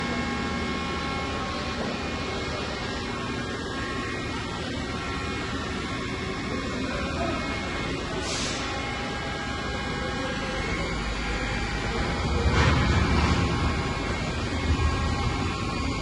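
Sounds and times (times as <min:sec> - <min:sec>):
machine hum: 0:00.0 - 0:16.0
machine whining tones: 0:00.0 - 0:16.0.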